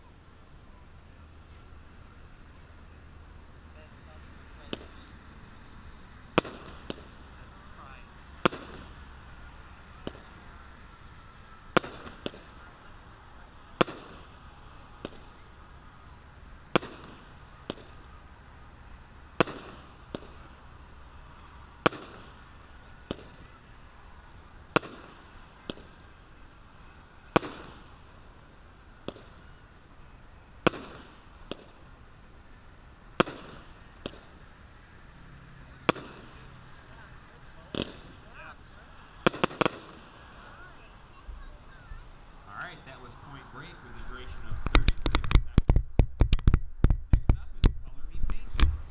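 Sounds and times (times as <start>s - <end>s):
firework reports: 0.0s - 46.2s.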